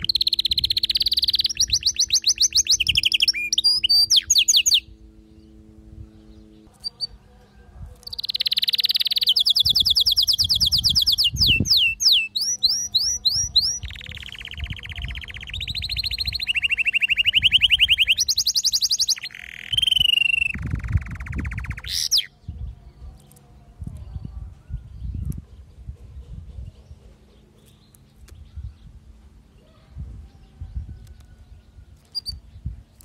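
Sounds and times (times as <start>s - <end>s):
canary singing trills: 0.0s - 7.3s, 8.0s - 29.0s, 29.6s - 33.0s.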